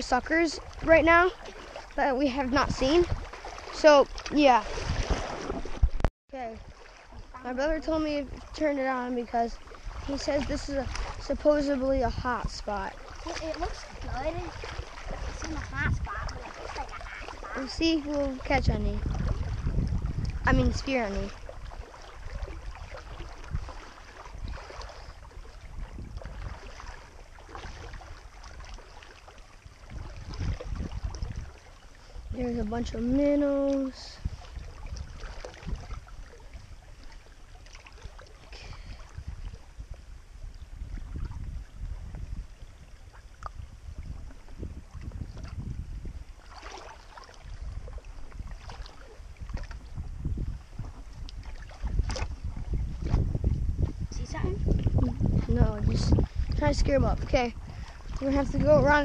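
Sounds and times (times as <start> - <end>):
water splashing while wading: 0.0 - 59.0
wind on microphone: 0.0 - 59.0.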